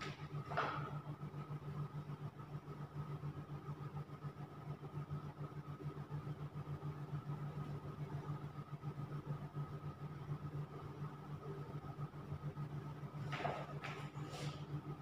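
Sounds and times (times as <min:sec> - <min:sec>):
pulsing mechanical hum: 0:00.0 - 0:15.0.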